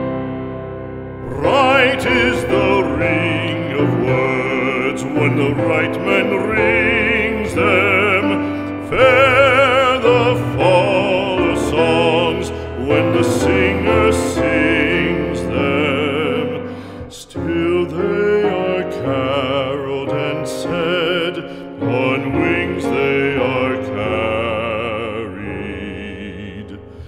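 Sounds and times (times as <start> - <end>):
sustained accompaniment: 0.0 - 27.0
operatic voice singing: 1.2 - 27.0.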